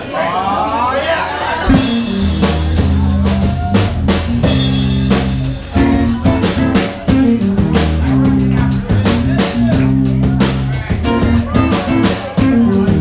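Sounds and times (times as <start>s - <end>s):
deep bass notes: 1.6s - 13.0s
drum kit beat: 1.6s - 13.0s
guitar: 1.6s - 13.0s.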